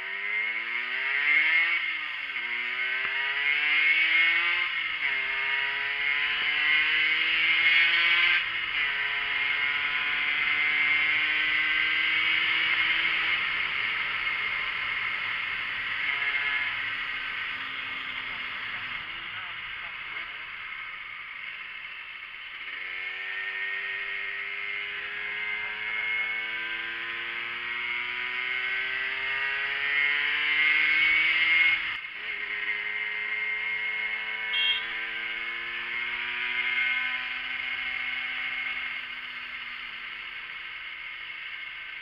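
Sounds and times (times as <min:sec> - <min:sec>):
moped engine revving: 0:00.0 - 0:42.0.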